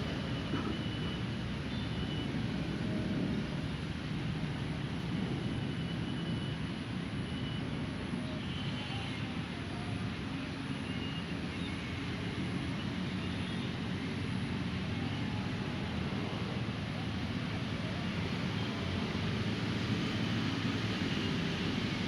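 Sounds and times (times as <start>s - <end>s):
low rumble of vehicle traffic: 0.0s - 22.0s.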